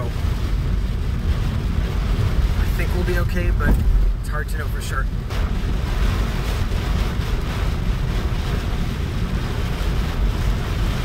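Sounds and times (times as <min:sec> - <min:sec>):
car road noise: 0:00.0 - 0:11.0
gusting wind: 0:00.0 - 0:11.0
rain hiss: 0:00.0 - 0:11.0.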